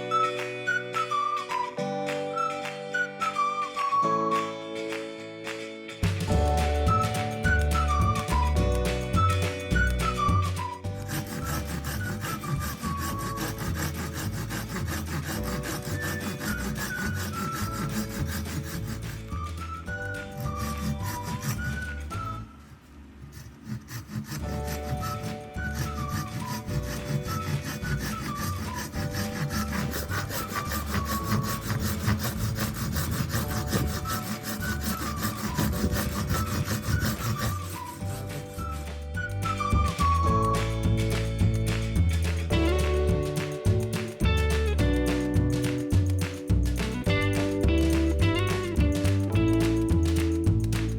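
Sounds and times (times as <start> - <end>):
soft background music: 0.0 - 22.8, 24.2 - 50.9
hand tool rubbing wood: 6.0 - 50.9
saw rasping through wood: 6.0 - 50.9.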